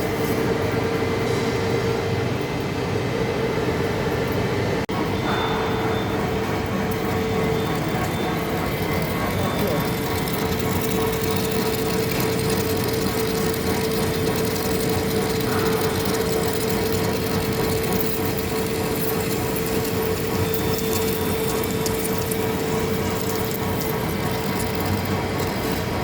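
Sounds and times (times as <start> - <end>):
lathe running: 4.9 - 26.0.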